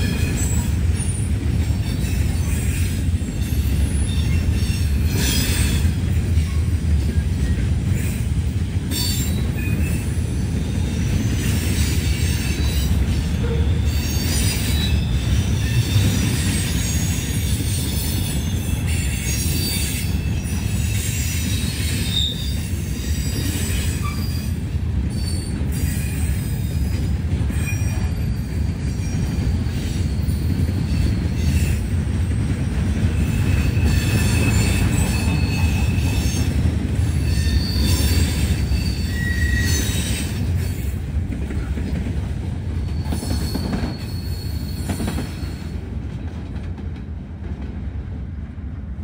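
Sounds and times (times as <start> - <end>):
high wheel squeals: 0.0 - 6.7, 8.9 - 31.9, 33.1 - 40.9, 42.8 - 45.8
freight train cars rumbling past: 0.0 - 49.0.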